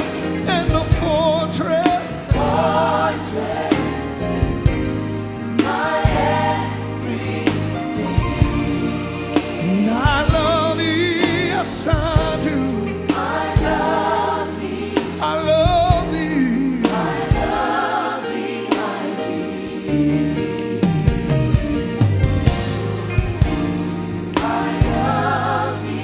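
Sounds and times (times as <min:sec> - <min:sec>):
voices singing with vibrato: 0:00.0 - 0:21.0, 0:24.2 - 0:26.0
choir singing: 0:00.0 - 0:26.0.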